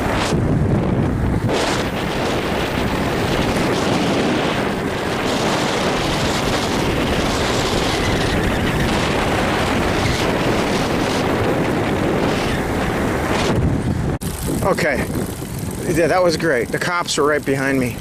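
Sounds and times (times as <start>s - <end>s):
road noise: 0.0s - 18.0s
wind rushing on microphone: 0.0s - 18.0s.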